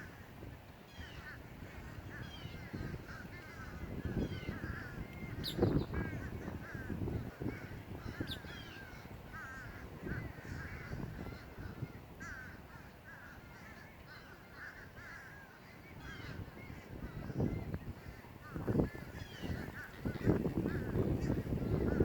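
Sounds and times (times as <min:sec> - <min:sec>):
crows cawing: 0:01.0 - 0:22.0.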